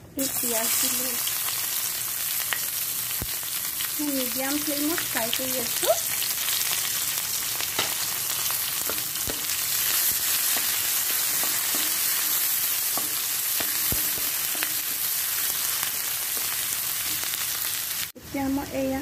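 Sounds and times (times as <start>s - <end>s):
onions sizzling in hot oil: 0.2s - 19.0s.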